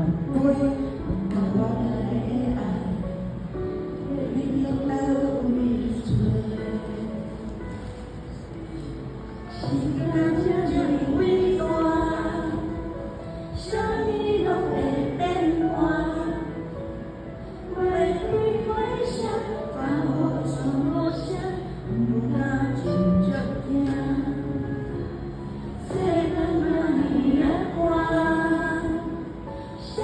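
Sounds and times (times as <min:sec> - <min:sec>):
woman singing: 0:00.0 - 0:30.0.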